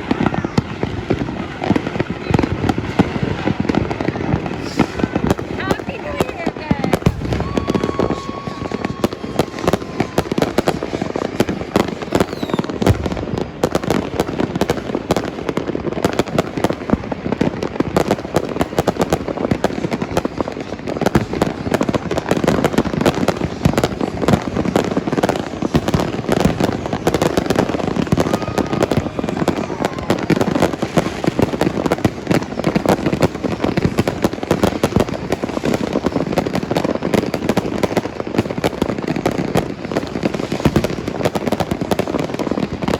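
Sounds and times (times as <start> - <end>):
fireworks and firecrackers popping: 0.0 - 42.9.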